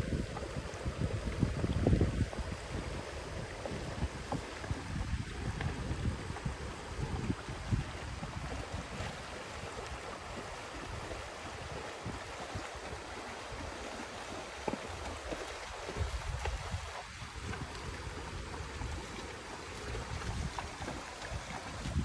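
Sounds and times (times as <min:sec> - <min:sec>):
wind buffeting microphone: 0:00.0 - 0:13.7, 0:14.3 - 0:22.0
horse splashing through water: 0:00.0 - 0:22.0
river water running over rocks: 0:00.0 - 0:22.0.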